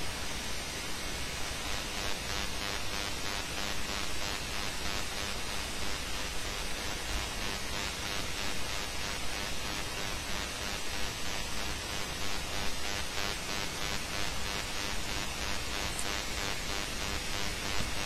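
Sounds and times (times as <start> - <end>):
background recording hiss: 0.0 - 18.0.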